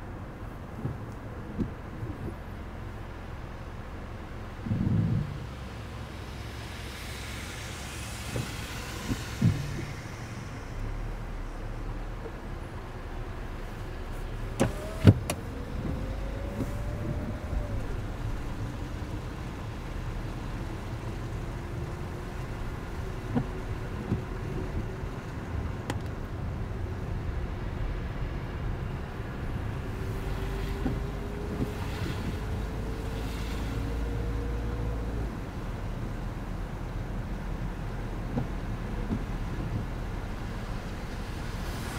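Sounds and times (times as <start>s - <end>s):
road rumble inside car: 0.0s - 41.9s.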